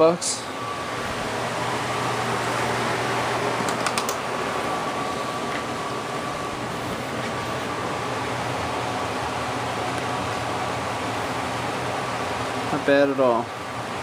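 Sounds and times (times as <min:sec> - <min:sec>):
faint hum: 0:00.0 - 0:14.0
fan-like rushing room noise: 0:00.0 - 0:14.0.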